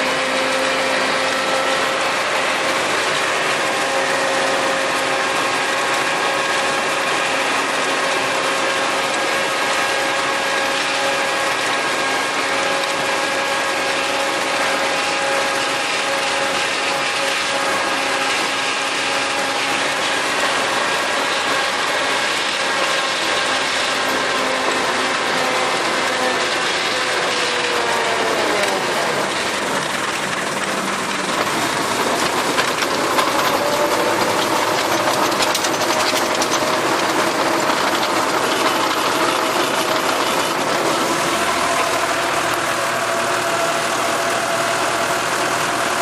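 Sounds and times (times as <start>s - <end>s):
tractor with rotary tiller running: 0.0s - 46.0s.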